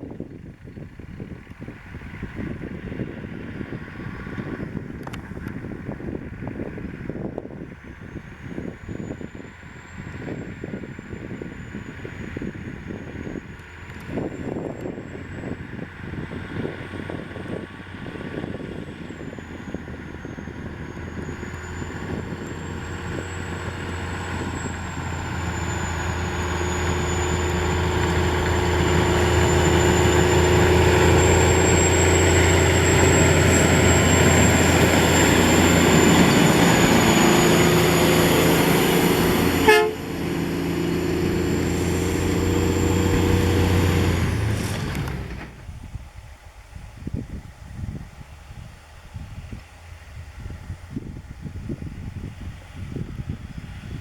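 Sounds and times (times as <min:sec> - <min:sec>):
truck diesel engine under load: 0:00.0 - 0:54.0.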